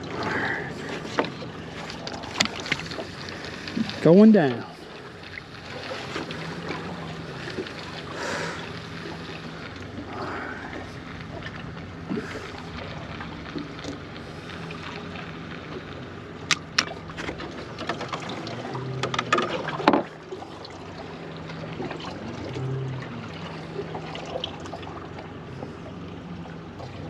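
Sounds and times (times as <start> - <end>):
water around boat: 0.0 - 27.0
wind: 0.0 - 27.0.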